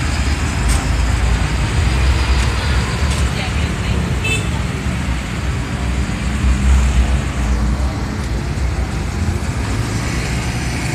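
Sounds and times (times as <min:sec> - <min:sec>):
traffic engine rumble: 0:00.0 - 0:10.9.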